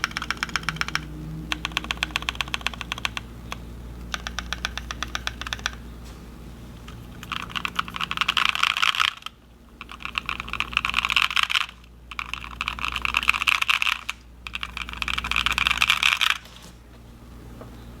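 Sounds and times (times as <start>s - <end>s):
mechanical keyboard typing: 0.0s - 5.8s, 6.8s - 16.4s
steady low hum: 0.0s - 18.0s.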